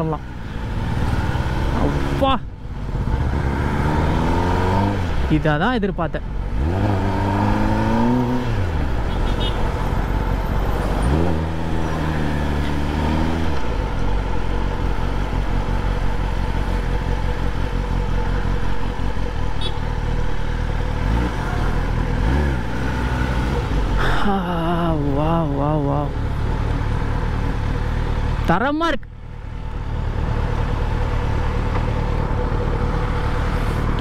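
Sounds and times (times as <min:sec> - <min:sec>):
motorcycle engine revving: 0:00.0 - 0:05.6, 0:06.2 - 0:28.5
wind and road noise: 0:00.0 - 0:34.0.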